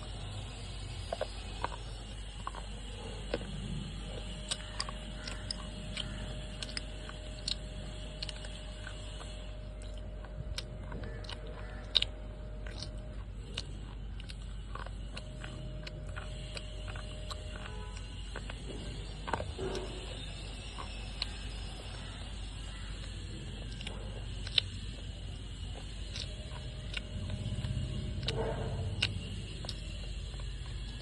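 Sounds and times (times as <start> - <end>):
slate pencils being chewed: 0.0 - 31.0.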